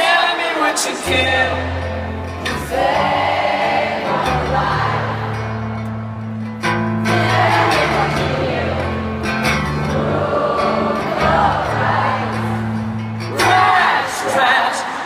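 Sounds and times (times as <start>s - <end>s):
people singing: 0.0s - 6.0s, 7.0s - 15.0s
guitar: 0.0s - 15.0s
low synth and bass chords: 1.2s - 13.6s.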